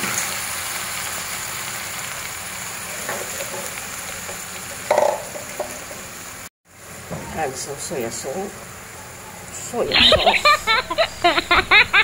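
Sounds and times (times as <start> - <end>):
oil sizzling and bubbling in a wok: 0.0 - 11.7.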